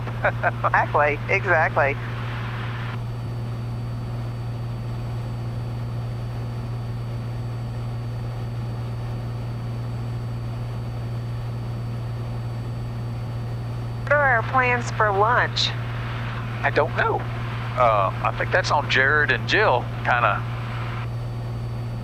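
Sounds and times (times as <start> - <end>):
airplane engine droning in cabin: 0.0 - 22.0.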